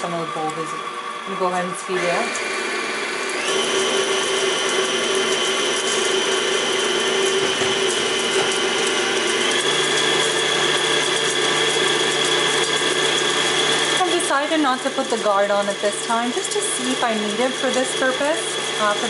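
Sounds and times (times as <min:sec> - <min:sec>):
stand mixer motor whining: 0:00.0 - 0:19.0.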